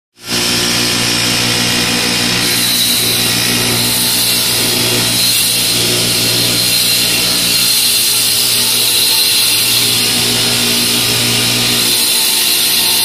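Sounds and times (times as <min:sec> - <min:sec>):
cutter hissing on spinning wood: 0:00.2 - 0:13.0
lathe motor hum: 0:00.2 - 0:13.0.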